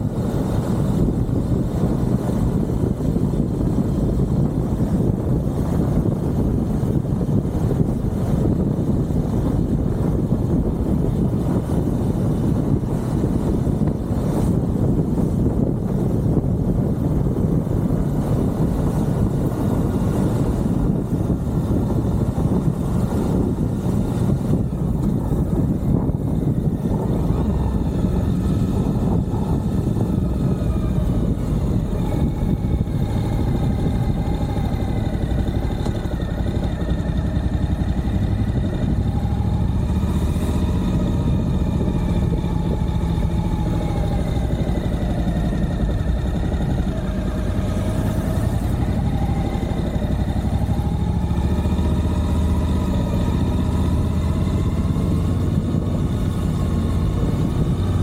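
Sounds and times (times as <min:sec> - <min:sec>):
motorcycle engine running: 0:00.0 - 0:58.0
road and wind rumble: 0:00.0 - 0:58.0.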